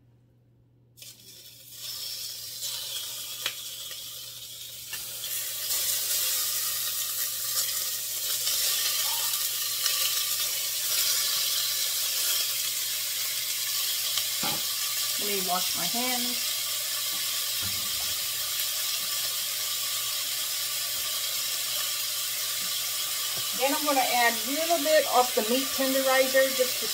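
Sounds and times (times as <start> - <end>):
beef sizzling in a hot pot: 1.0 - 26.9.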